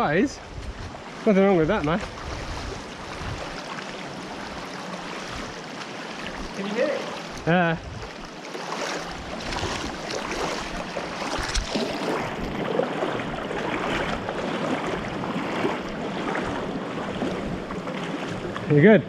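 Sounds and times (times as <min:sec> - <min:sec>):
stream water rushing: 0:01.0 - 0:19.0.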